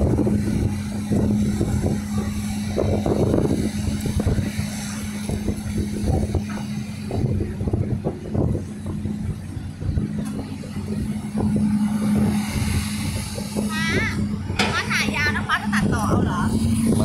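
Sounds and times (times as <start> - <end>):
excavator diesel engine humming: 0.0 - 17.0.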